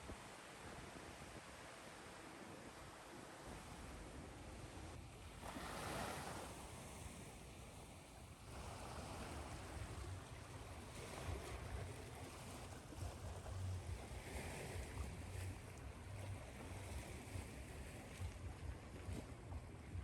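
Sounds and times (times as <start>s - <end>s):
low uneven rumble: 3.8s - 20.0s.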